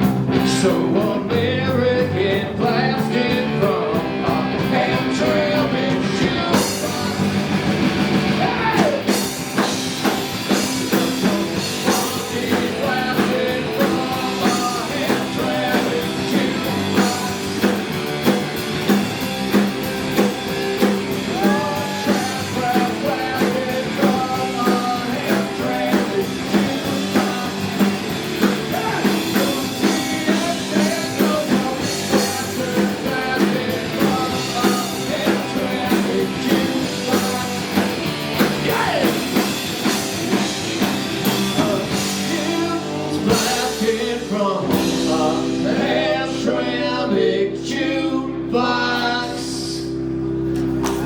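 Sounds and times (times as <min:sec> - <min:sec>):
guitar: 0:00.0 - 0:51.0
rock band playing live: 0:00.0 - 0:51.0.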